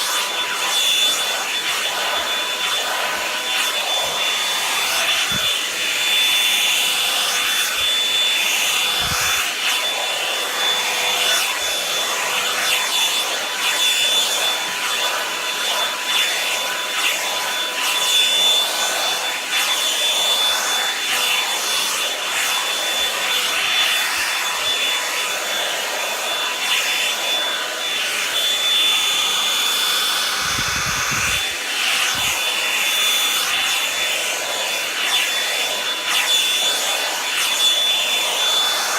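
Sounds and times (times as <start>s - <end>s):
brush rustling through hair: 0.0s - 38.9s
hair dryer brush blowing: 0.0s - 38.9s.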